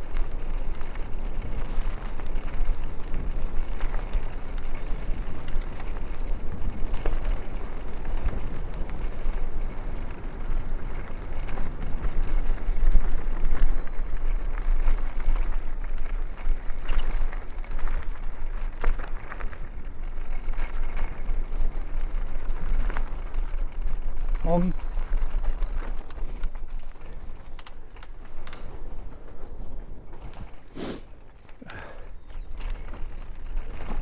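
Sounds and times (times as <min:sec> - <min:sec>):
bike clicks and rattles: 0:00.0 - 0:34.0
wind buffeting microphone: 0:00.0 - 0:34.0.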